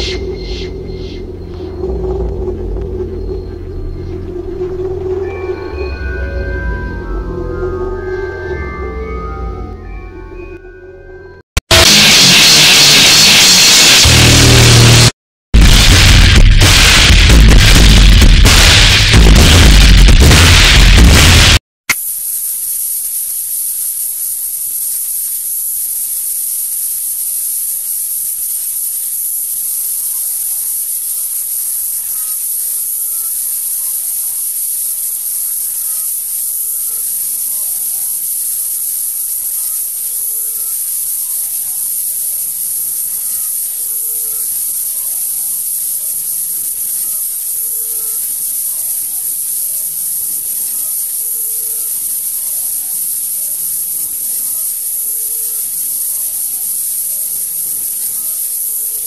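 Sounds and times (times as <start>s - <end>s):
high-pitched electronic hiss: 0.0s - 10.7s, 11.3s - 59.0s.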